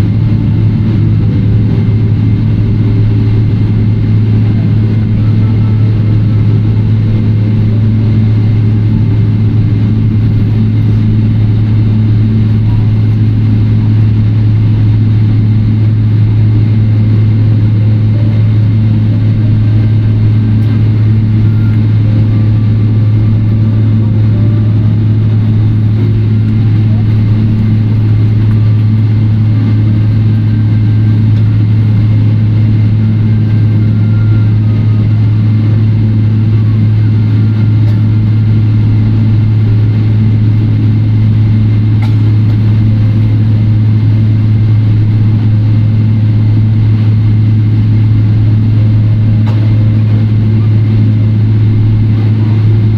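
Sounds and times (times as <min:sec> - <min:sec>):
airplane cabin hum: 0:00.0 - 0:52.9.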